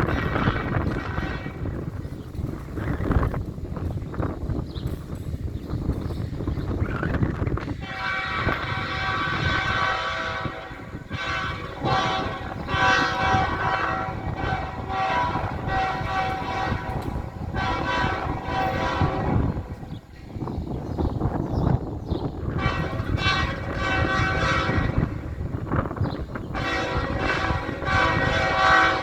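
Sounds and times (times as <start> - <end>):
low train rumble: 0.0 - 29.0.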